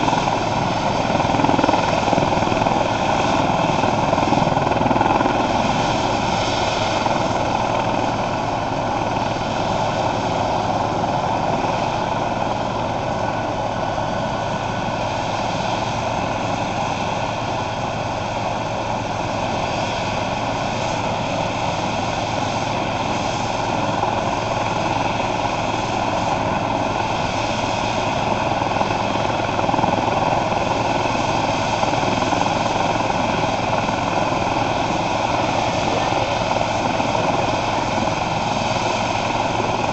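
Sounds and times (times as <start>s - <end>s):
helicopter rotor noise: 0.0s - 39.9s
turbine whine: 0.0s - 39.9s.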